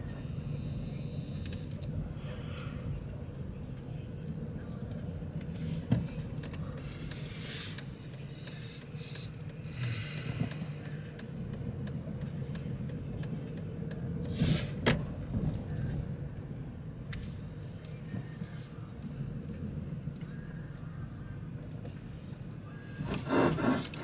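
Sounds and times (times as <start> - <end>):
car driving rumble from inside: 0.0 - 24.0.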